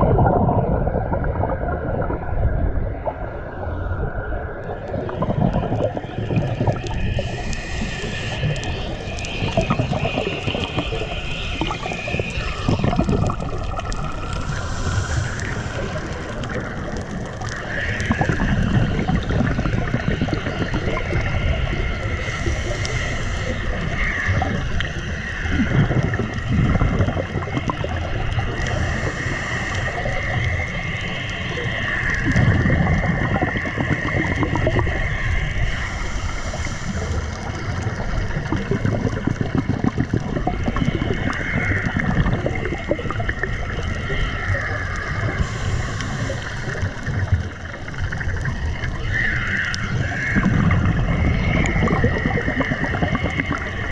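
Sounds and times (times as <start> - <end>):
low rumble of moving water: 0.0 - 53.9
scuba bubbles gurgling: 0.0 - 53.9.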